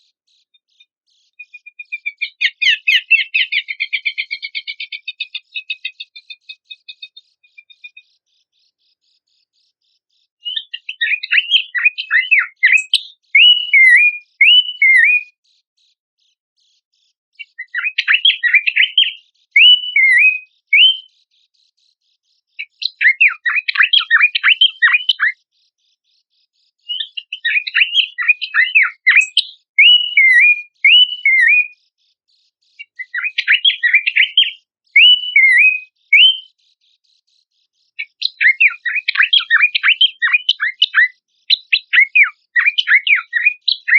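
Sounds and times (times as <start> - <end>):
babbler bird song: 0.0 - 43.9.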